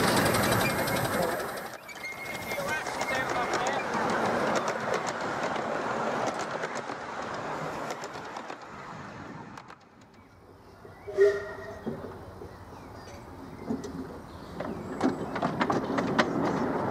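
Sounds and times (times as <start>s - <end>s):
train wheels clicking over rail joints: 0.0s - 16.9s.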